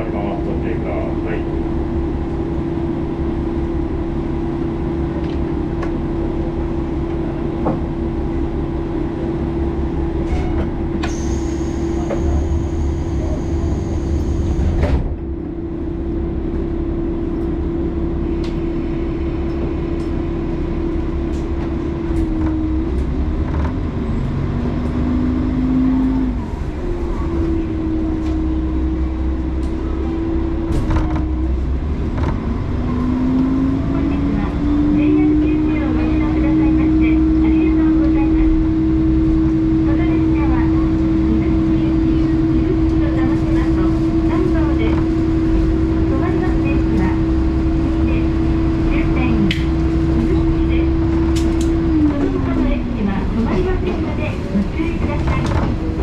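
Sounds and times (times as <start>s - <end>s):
diesel railcar engine humming: 0.0s - 56.0s.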